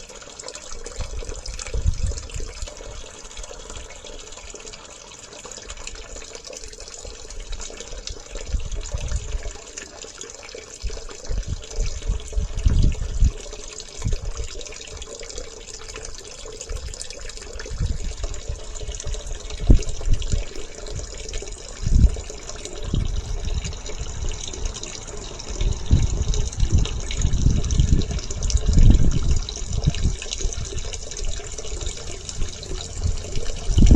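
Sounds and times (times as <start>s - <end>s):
water running from pipe: 0.0s - 33.9s
wind buffeting microphone: 0.8s - 4.6s, 7.1s - 9.7s, 10.8s - 33.9s.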